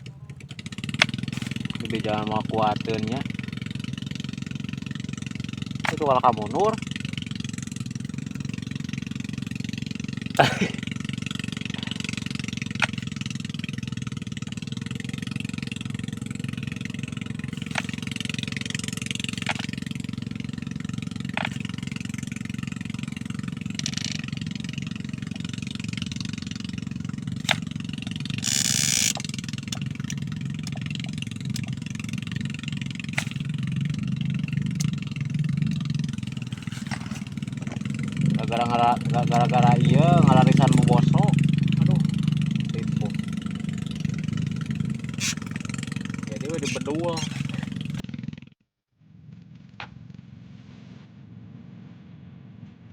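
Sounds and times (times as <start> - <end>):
engine droning: 0.0 - 48.6.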